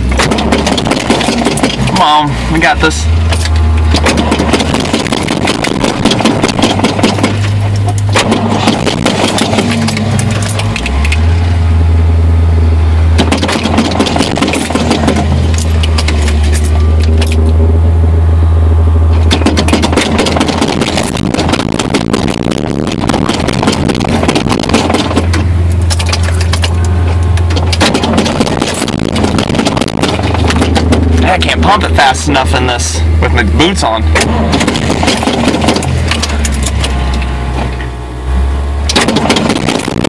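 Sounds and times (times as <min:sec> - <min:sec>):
car engine cold-starting: 0:00.0 - 0:40.0.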